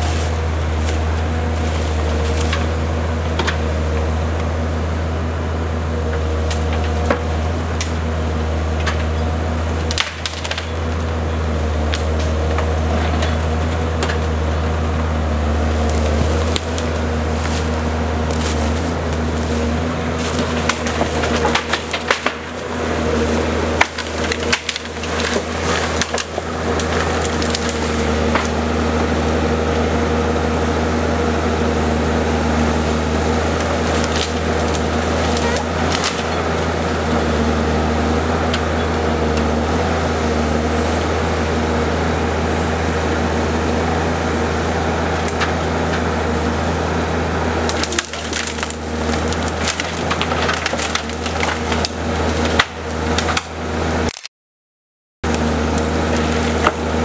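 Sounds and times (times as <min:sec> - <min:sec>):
branches cracking and snapping: 0:00.0 - 0:04.0, 0:06.2 - 0:08.1, 0:09.6 - 0:14.6, 0:15.2 - 0:30.0, 0:31.9 - 0:41.2, 0:44.6 - 0:46.8, 0:47.4 - 0:54.3, 0:55.3 - 0:57.0
diesel engine running: 0:00.0 - 0:54.1, 0:55.2 - 0:57.0.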